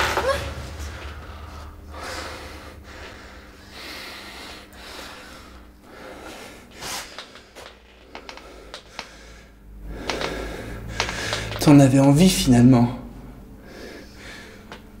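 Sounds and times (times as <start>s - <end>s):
low steady hum: 0.0s - 15.0s
person breathing heavily: 0.4s - 11.6s, 13.6s - 14.8s.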